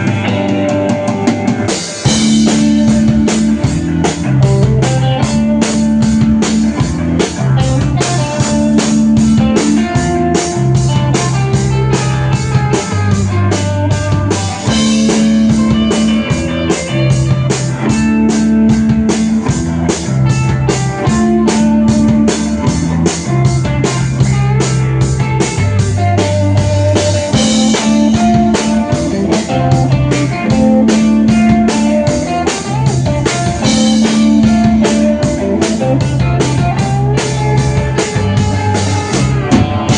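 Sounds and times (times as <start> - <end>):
bass guitar holding notes: 0.0 - 39.9
drum kit beat: 0.0 - 39.9
electric guitar: 0.0 - 39.9.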